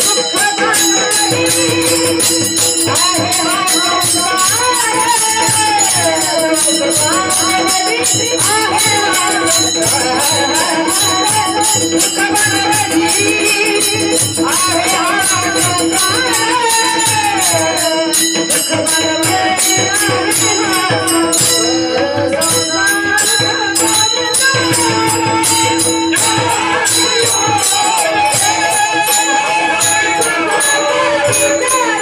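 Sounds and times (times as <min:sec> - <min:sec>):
hand percussion beat: 0:00.0 - 0:32.0
person singing ornamented melody: 0:00.0 - 0:32.0.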